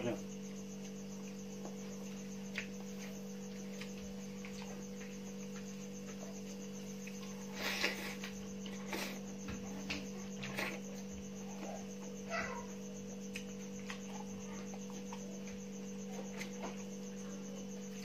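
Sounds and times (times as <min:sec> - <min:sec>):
cricket chirping: 0:00.0 - 0:18.0
electrical hum: 0:00.0 - 0:18.0.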